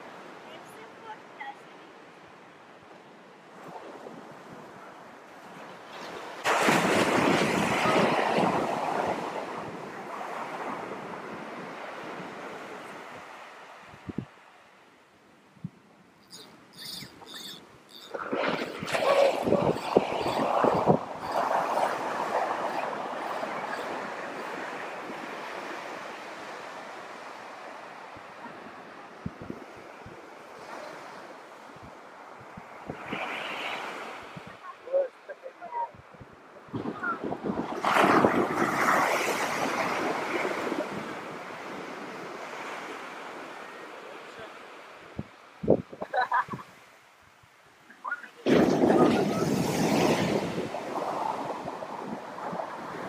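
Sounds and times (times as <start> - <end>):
surf breaking on a beach: 0.0 - 53.0
wind on microphone: 3.5 - 14.4, 15.6 - 27.2, 28.1 - 34.7, 35.8 - 43.5, 45.2 - 46.7, 48.1 - 53.0.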